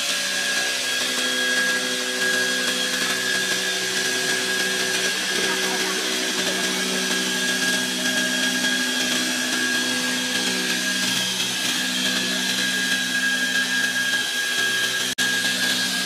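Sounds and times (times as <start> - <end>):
belt sander grinding metal: 0.0 - 16.0.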